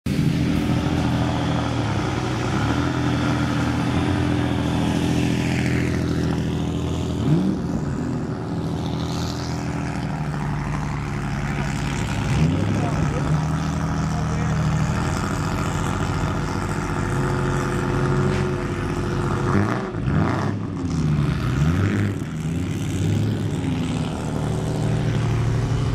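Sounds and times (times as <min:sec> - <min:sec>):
car engines low drone: 0:00.0 - 0:25.9.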